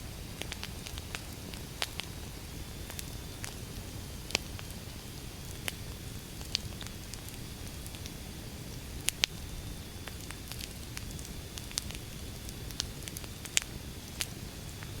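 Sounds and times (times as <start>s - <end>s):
low rumble of flame: 0.0s - 15.0s
firewood crackling and popping: 0.1s - 15.0s.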